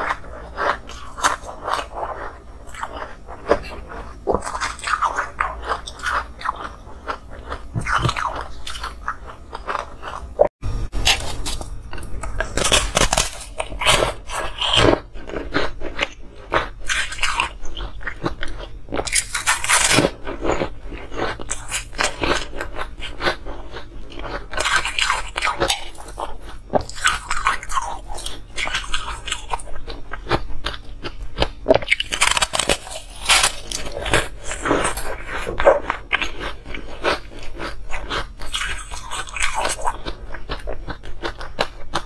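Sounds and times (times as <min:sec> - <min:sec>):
ice being chewed: 0:00.0 - 0:42.0.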